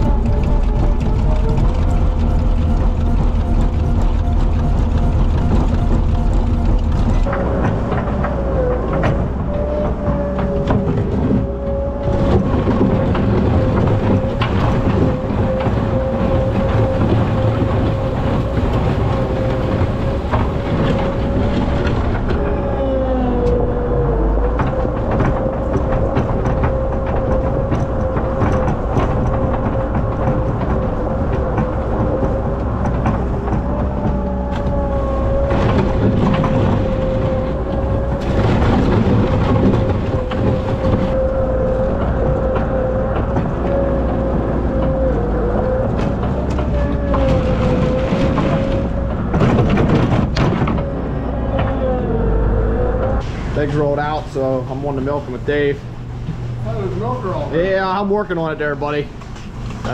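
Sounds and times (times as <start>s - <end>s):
loader engine whining: 0.0s - 59.9s.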